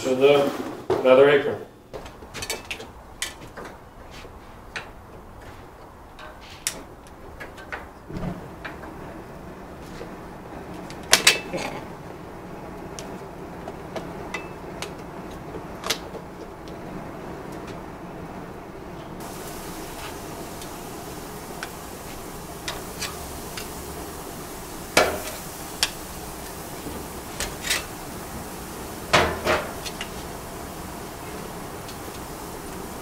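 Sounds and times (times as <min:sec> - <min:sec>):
steady background hiss: 0:00.0 - 0:33.0.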